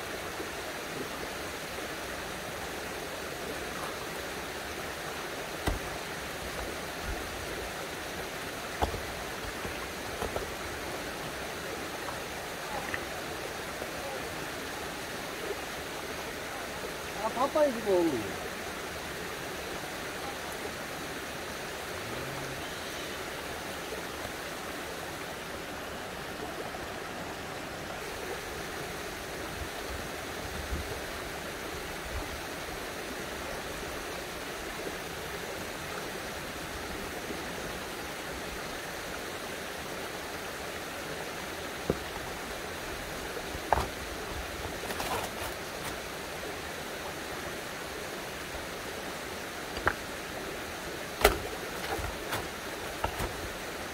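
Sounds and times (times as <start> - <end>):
running spring water: 0.0 - 53.9.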